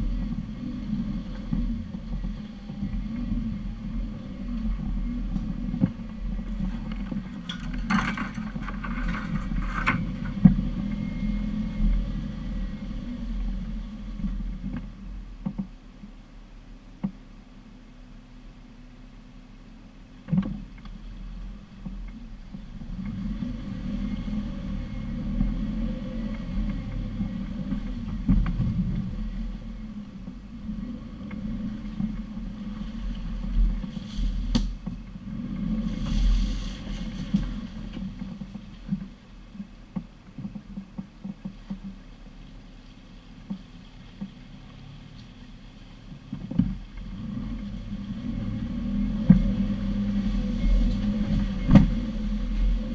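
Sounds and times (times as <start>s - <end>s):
off-road vehicle engine hum: 0.0s - 52.9s.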